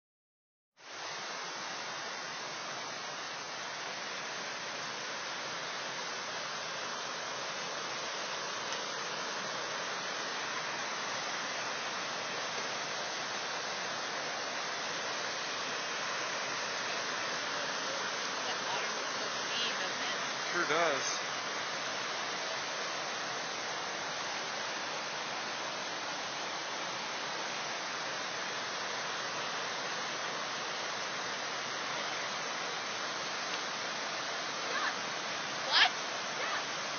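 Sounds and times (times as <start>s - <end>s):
waterfall rushing: 0.8s - 36.9s.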